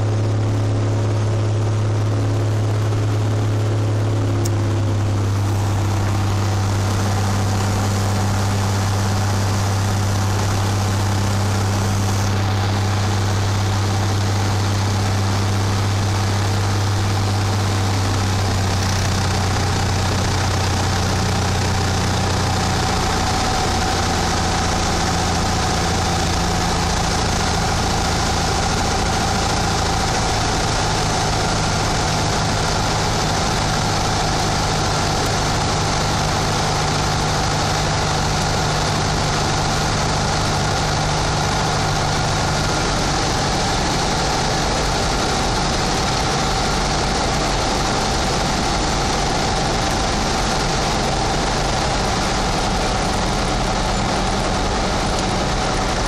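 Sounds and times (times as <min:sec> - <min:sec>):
small plane engine droning: 0:00.0 - 0:56.0.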